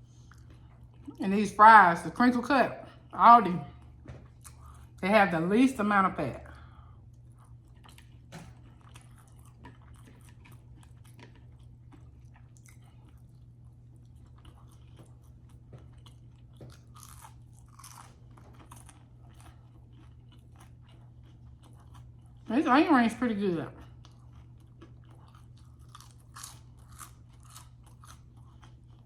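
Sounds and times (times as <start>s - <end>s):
chewing crispy food: 0.0s - 1.3s, 3.7s - 5.0s, 6.5s - 29.0s
low steady hum: 0.0s - 29.0s.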